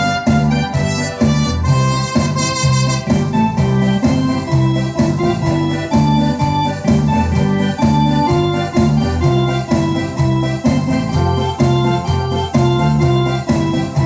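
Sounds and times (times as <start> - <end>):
electronic keyboard organ chords: 0.0 - 14.0.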